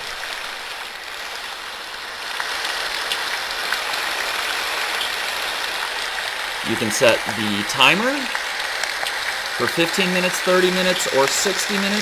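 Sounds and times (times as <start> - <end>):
rain sound from machine: 0.0 - 12.0.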